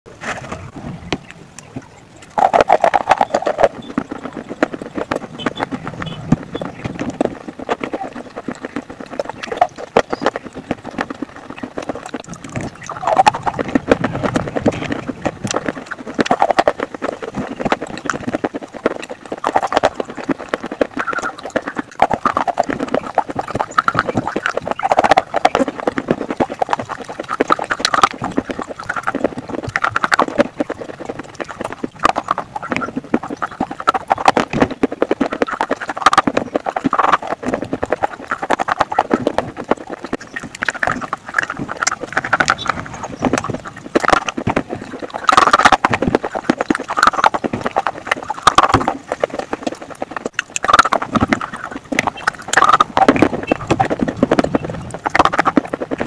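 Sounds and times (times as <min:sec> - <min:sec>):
gritty chewing crackling: 0:00.2 - 0:56.0.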